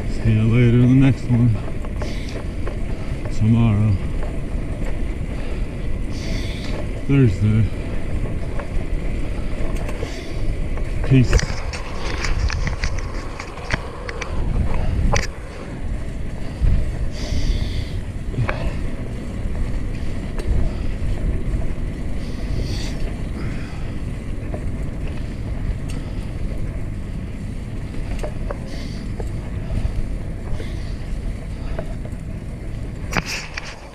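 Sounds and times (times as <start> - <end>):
bike clicks and rattles: 0.0 - 33.9
tyres rolling on asphalt: 0.0 - 33.9
wind buffeting microphone: 0.0 - 33.9.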